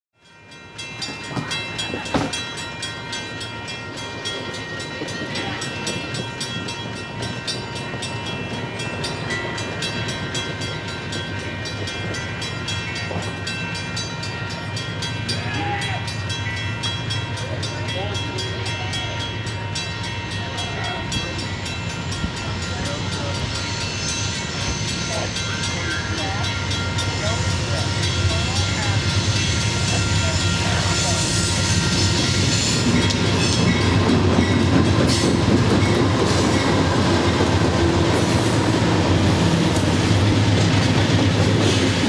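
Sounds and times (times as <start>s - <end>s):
approaching freight train rumble: 0.2s - 42.0s.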